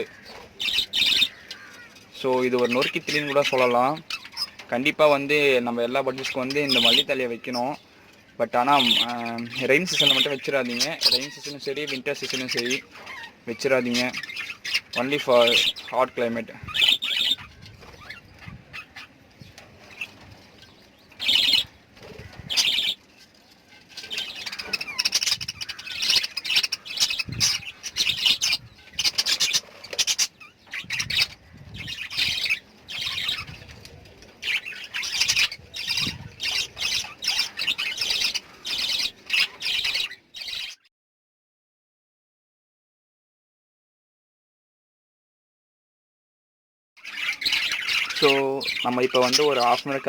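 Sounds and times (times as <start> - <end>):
lovebirds chirping: 0.0 - 40.9, 47.0 - 50.0.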